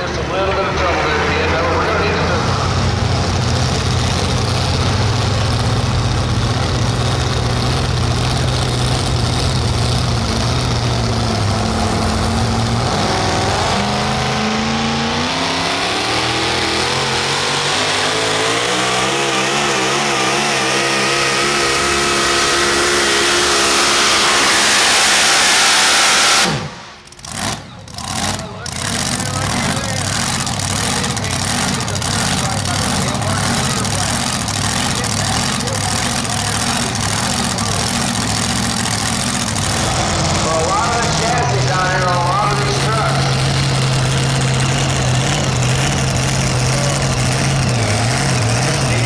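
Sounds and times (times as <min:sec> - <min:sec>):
truck engine at full throttle: 0:00.0 - 0:49.0.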